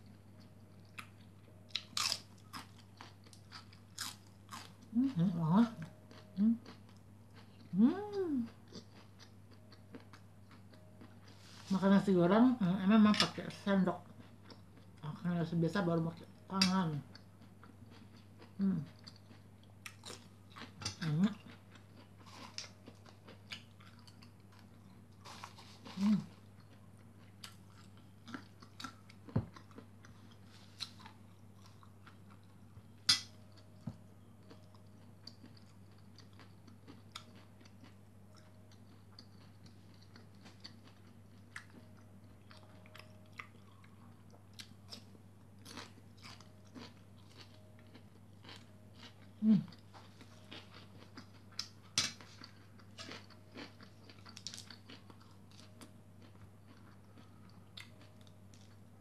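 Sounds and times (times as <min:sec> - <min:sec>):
chewing and crunching food: 0:00.0 - 0:59.0
low steady hum: 0:00.0 - 0:59.0.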